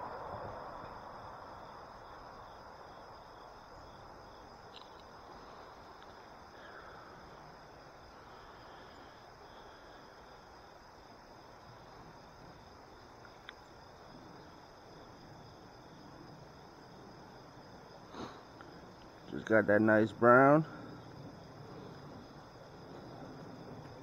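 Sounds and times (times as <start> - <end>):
crickets chirping: 0.0 - 24.0
faint steady hiss: 0.0 - 24.0.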